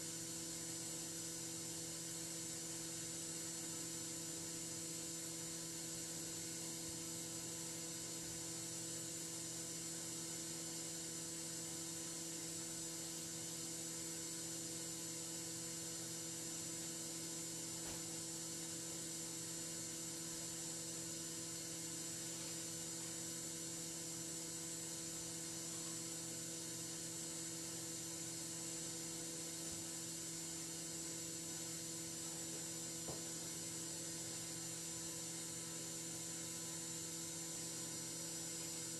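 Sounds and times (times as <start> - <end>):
electrical hum with hiss: 0.0 - 38.9.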